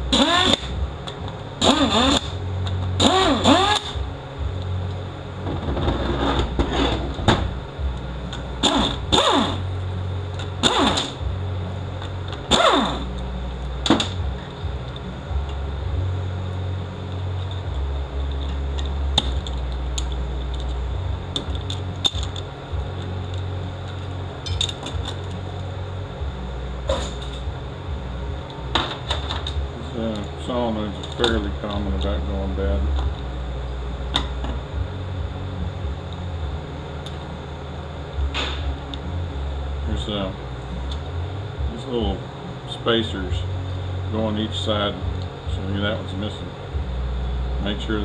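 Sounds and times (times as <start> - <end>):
low hum: 0.0 - 48.0.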